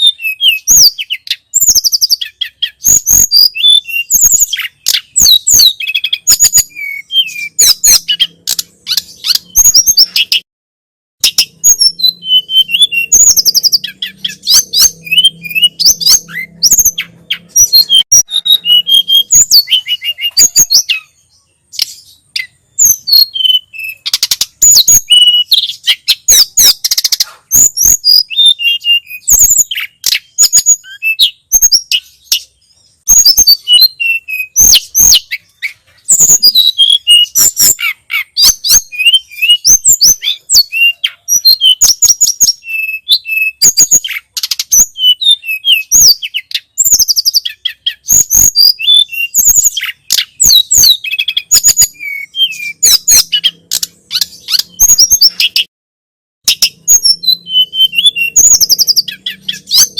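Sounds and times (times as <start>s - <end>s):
bird singing high chirps: 0.0s - 10.5s, 11.2s - 55.7s, 56.4s - 59.9s.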